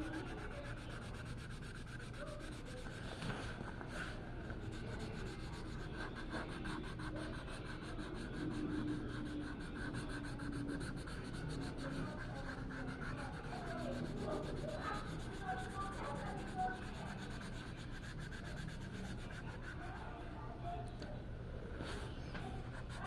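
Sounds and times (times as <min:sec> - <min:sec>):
soft rubbing and scraping: 0:00.0 - 0:23.0.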